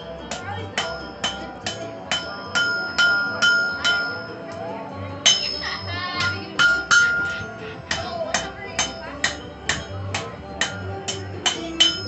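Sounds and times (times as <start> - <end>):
hammer striking metal on anvil: 0.3 - 4.6, 5.2 - 12.0.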